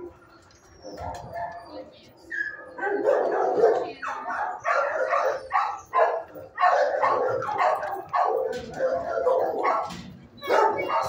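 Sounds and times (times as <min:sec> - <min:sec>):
dogs barking: 0:00.8 - 0:11.0.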